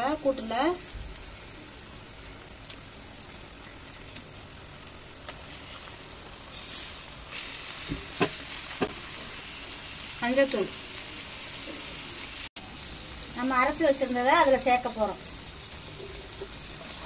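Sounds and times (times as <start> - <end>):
prawns sizzling in a pot: 0.0 - 17.0.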